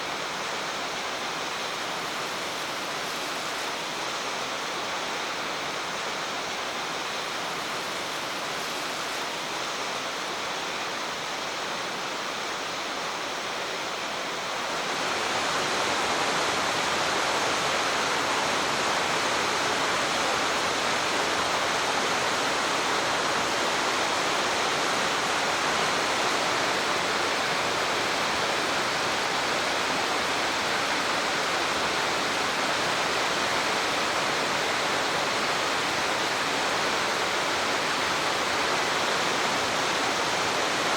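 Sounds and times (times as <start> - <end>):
waterfall rushing water: 0.0 - 40.9.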